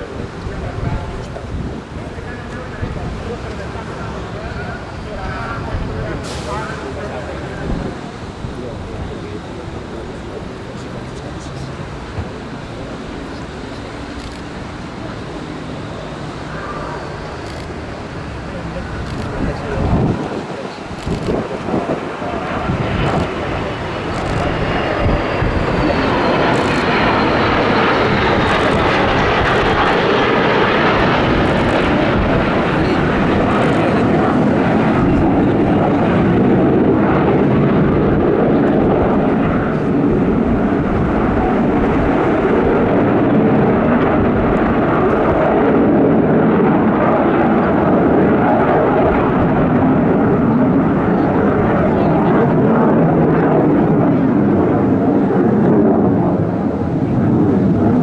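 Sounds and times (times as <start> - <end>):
jet aircraft flying past: 0.0 - 58.0.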